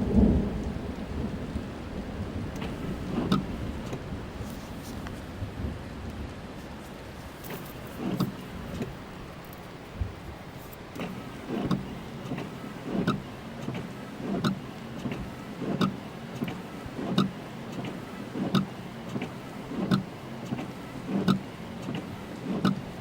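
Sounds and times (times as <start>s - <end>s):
rain hissing on car: 0.0s - 23.0s
windscreen wipers swishing: 0.0s - 23.0s
wiper click: 2.5s - 5.3s, 6.1s - 23.0s.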